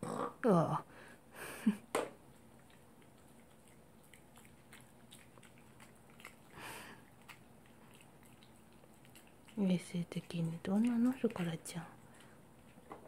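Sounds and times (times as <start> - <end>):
dog chewing crunches: 2.2 - 13.0.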